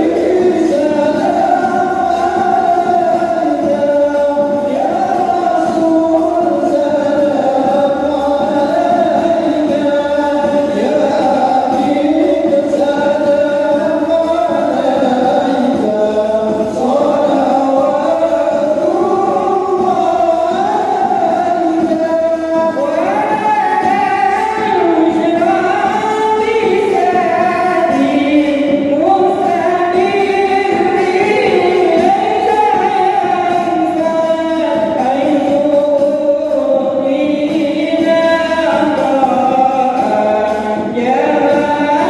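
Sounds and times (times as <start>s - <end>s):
men singing devotional songs: 0.0s - 42.0s.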